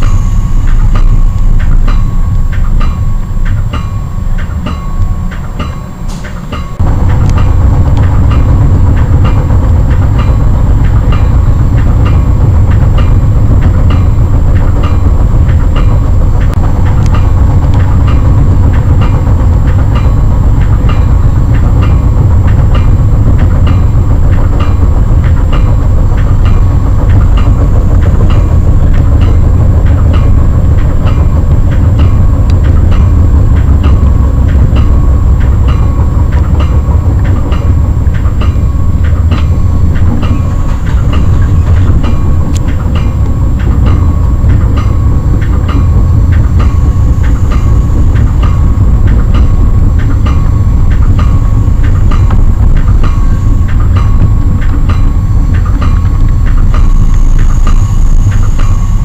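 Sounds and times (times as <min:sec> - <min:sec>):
rail car deep rumble: 0:00.0 - 0:59.0
wheels clicking over rail joints: 0:00.0 - 0:59.0.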